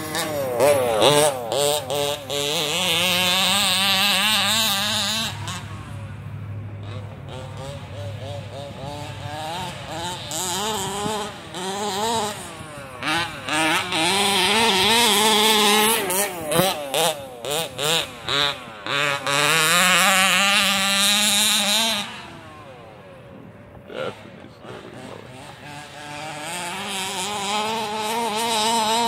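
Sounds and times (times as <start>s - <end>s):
small two-stroke engine revving: 0.0s - 29.0s.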